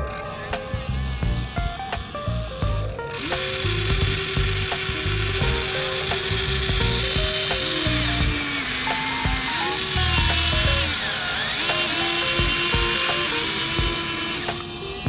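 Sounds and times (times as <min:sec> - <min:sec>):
background music with steady beat: 0:00.0 - 0:15.0
toy excavator motors whirring: 0:00.0 - 0:15.0.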